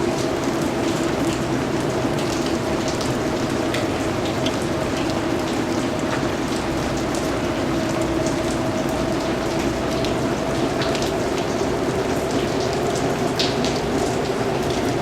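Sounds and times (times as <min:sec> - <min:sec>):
raindrops striking close by: 0:00.0 - 0:15.0.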